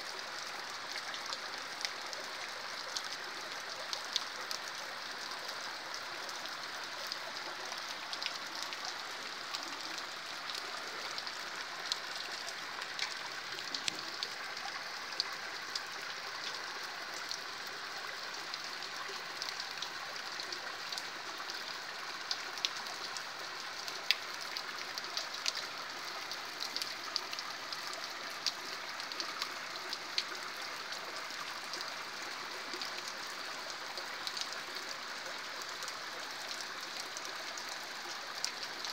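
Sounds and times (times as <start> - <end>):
small stream running: 0.0 - 38.9
steady rain: 0.0 - 38.9.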